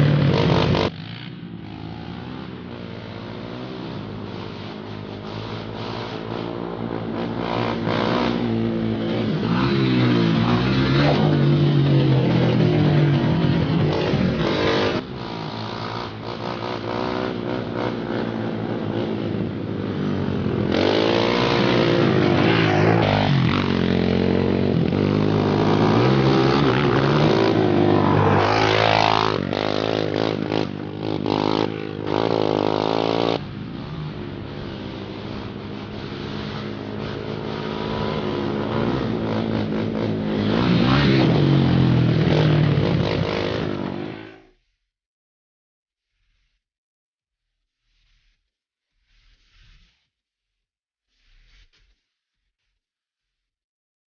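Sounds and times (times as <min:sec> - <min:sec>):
quad bike engine revving: 0:00.0 - 0:44.4.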